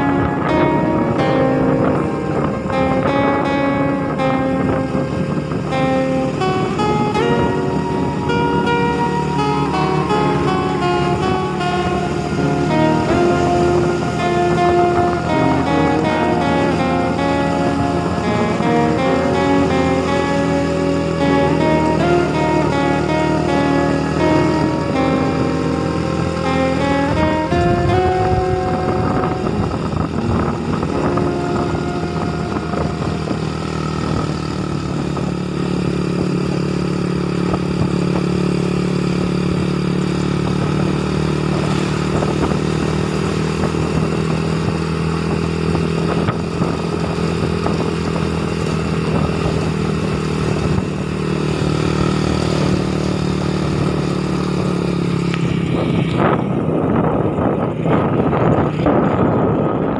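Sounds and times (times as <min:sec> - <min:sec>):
motorcycle engine running: 0:00.0 - 0:59.9
wind rumbling on microphone: 0:00.0 - 0:59.9.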